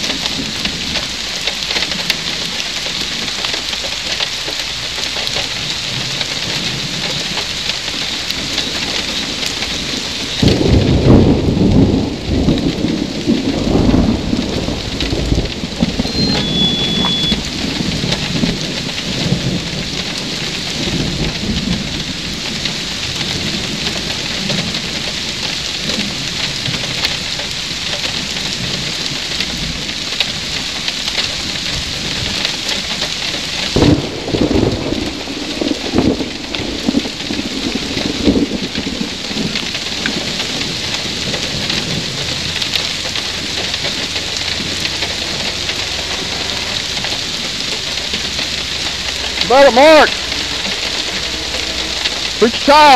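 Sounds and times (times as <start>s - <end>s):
steady rain falling: 0.0s - 52.9s
thunder rumbling: 5.0s - 52.9s.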